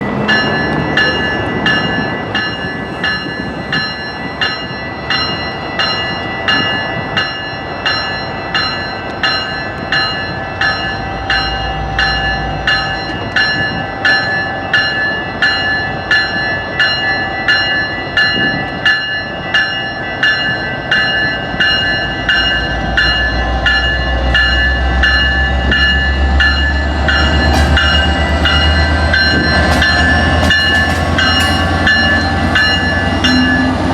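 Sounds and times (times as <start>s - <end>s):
diesel locomotive engine rumble: 0.0s - 33.9s
railway bell ringing: 0.0s - 33.9s.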